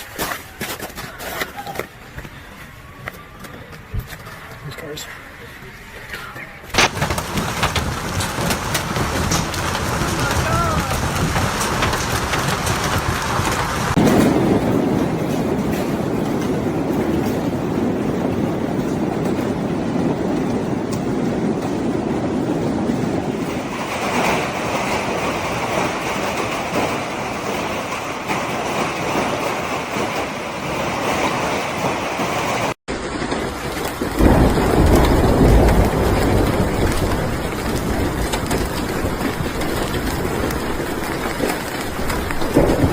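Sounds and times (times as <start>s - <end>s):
deep roar of hail: 6.8s - 42.9s
hail clattering on hard surfaces: 6.8s - 42.9s
low wind rumble on microphone: 6.8s - 42.9s.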